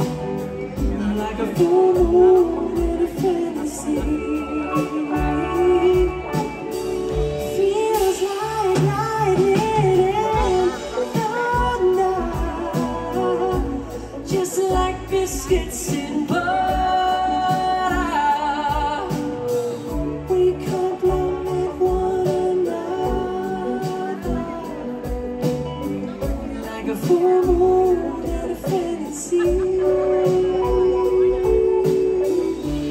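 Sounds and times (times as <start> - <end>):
live band playing: 0.0 - 32.9
person singing: 0.0 - 32.9.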